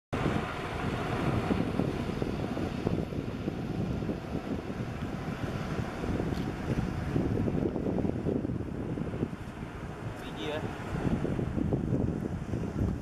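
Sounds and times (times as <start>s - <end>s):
wind buffeting microphone: 0.1s - 13.0s
distant jet engine rumble: 0.2s - 13.0s.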